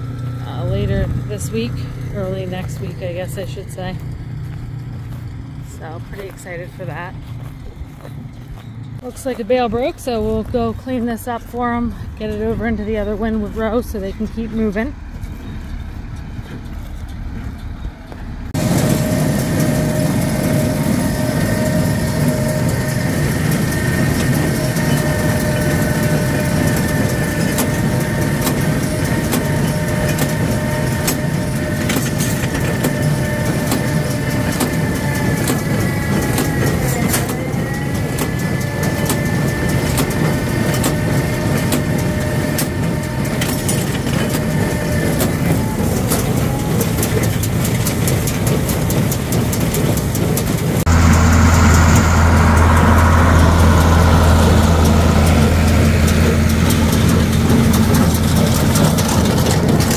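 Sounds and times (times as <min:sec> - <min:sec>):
baler and tractor running: 0:00.0 - 0:59.9.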